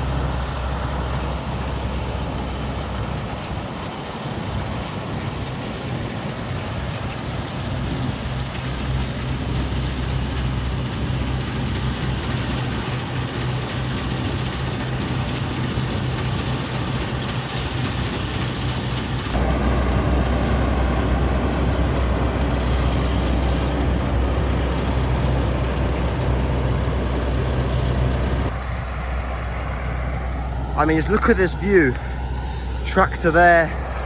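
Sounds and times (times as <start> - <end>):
combine harvester diesel engine: 0.0 - 34.0.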